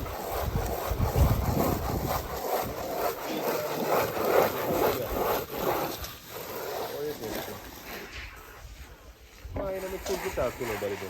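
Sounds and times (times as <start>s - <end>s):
handsaw cutting wood: 0.0s - 8.2s, 9.6s - 11.0s.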